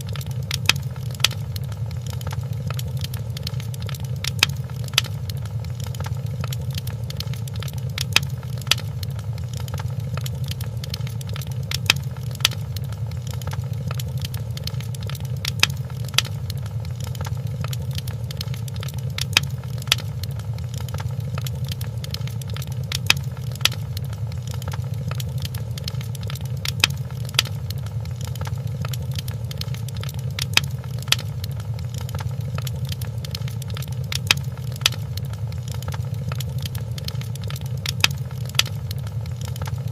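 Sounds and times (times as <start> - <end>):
fireplace flames rumbling: 0.0 - 39.9
wood popping: 0.1 - 39.8.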